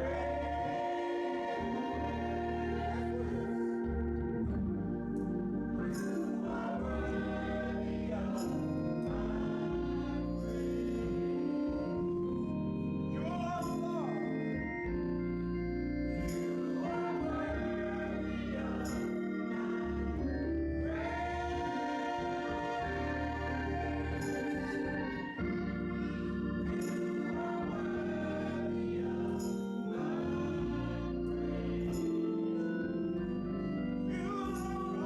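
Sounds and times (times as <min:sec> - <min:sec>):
gospel choir singing: 0:00.0 - 0:35.0
organ chords: 0:00.0 - 0:35.0.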